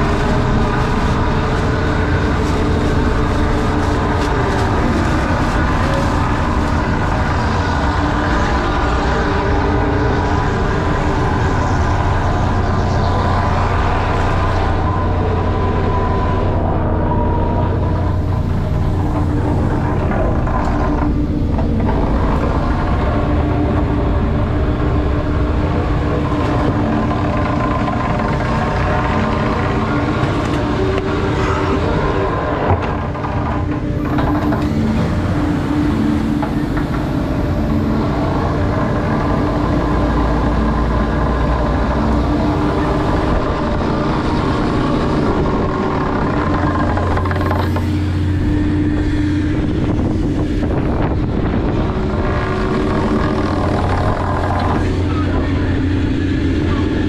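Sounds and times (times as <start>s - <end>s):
diesel engine droning hum: 0.0s - 57.0s.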